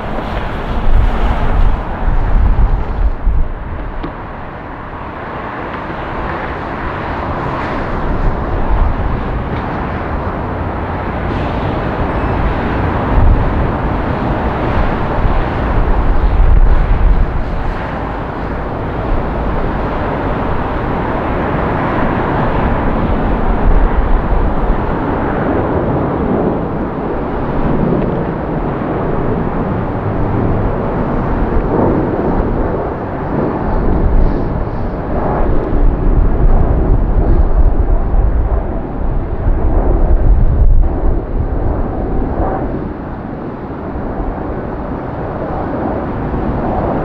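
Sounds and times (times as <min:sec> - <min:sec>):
jet engines rumbling at takeoff: 0:00.0 - 0:47.0.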